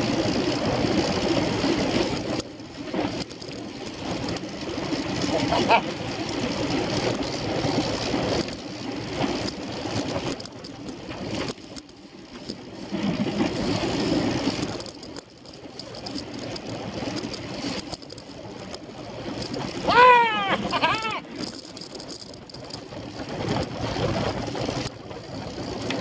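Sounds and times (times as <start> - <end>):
bicycle tyres rolling on asphalt: 0.0 - 26.0.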